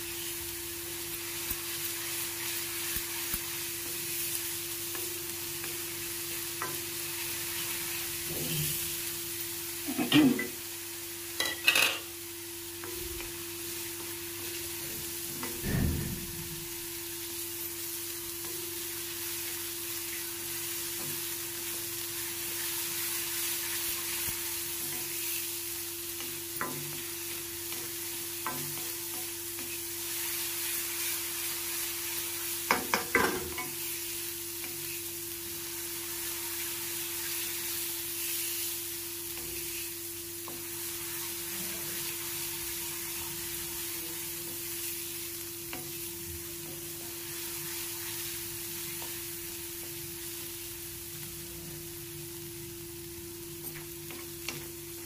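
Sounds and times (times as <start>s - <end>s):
paste sizzling in hot oil: 0.0s - 55.0s.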